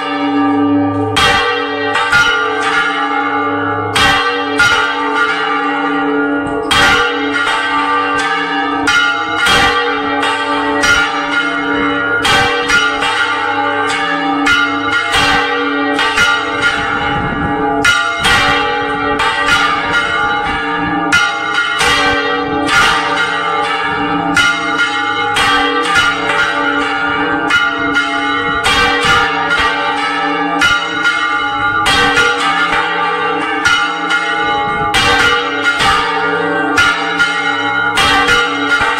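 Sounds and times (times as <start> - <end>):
church bells clanging: 0.0 - 38.9.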